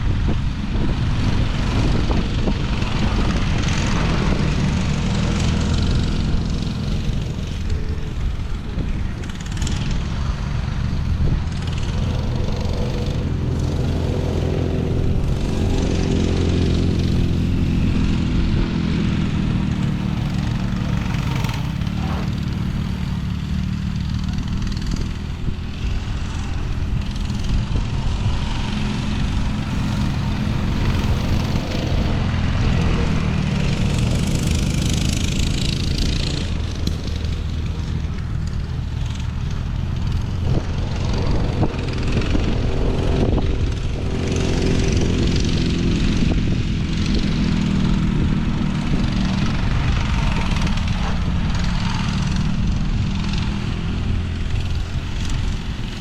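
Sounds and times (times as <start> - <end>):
small vehicle engine running: 0.0 - 56.0.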